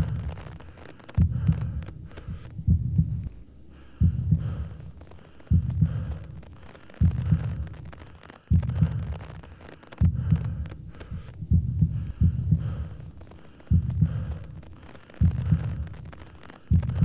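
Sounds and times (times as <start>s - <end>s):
deep heartbeat: 0.0s - 17.0s.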